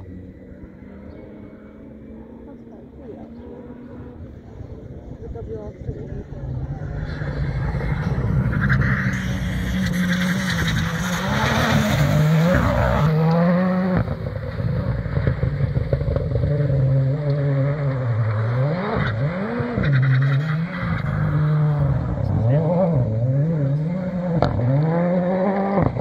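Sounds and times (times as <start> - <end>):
rally car engines at full throttle: 0.0 - 26.0.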